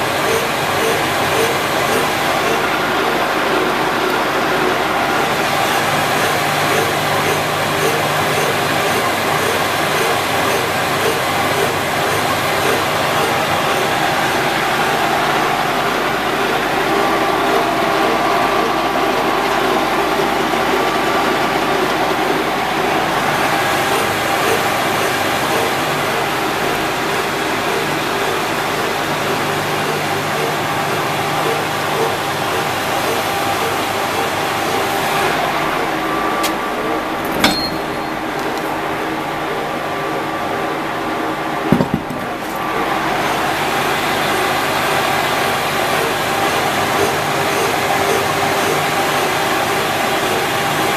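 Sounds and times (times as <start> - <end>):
boring mill humming: 0.0 - 50.9.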